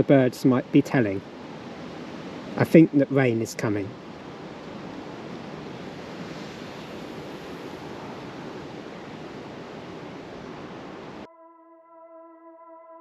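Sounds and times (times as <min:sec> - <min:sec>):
wind rushing through trees: 0:00.0 - 0:11.3.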